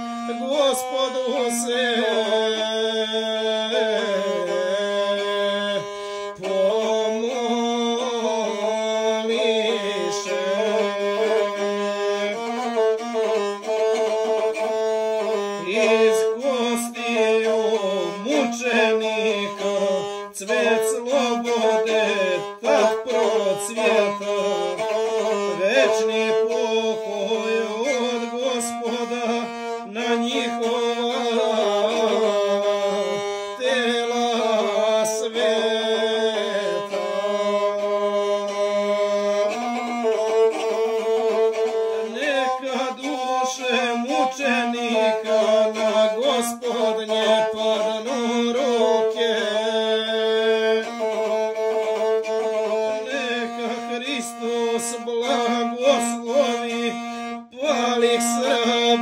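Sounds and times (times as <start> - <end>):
bowed single-string fiddle melody: 0.0 - 59.0.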